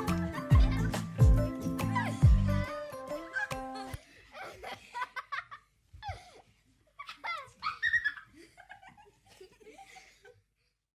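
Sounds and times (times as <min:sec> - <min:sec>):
high-pitched voices giggling: 0:00.0 - 0:01.2, 0:01.8 - 0:10.4.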